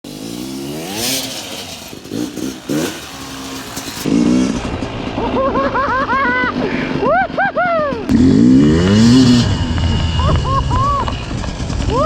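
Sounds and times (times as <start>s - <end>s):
two-stroke dirt bike engine revving: 0.0s - 7.0s, 8.0s - 12.0s.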